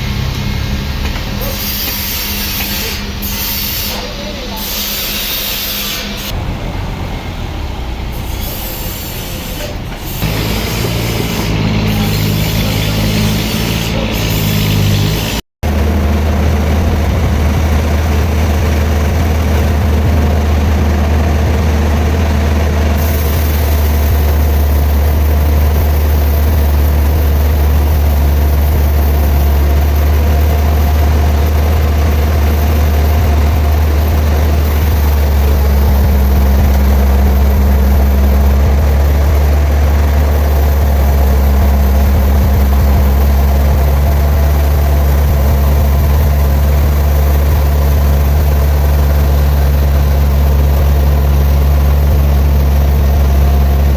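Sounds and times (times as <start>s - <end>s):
heavy machinery engine droning: 0.0s - 5.5s, 6.1s - 53.9s.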